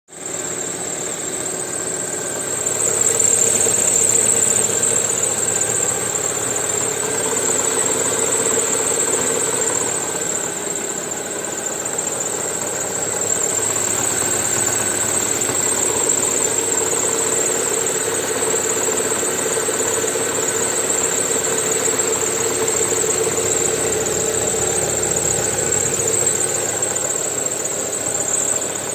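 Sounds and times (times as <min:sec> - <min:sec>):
engine knock: 0:00.1 - 0:28.9
engine running with high whine: 0:00.2 - 0:28.9.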